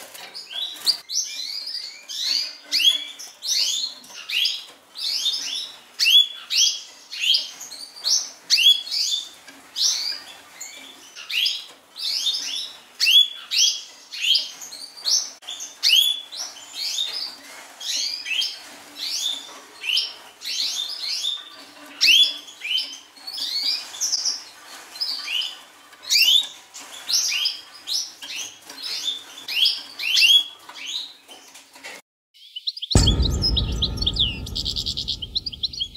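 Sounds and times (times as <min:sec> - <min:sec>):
canaries chirping: 0:00.0 - 0:31.6.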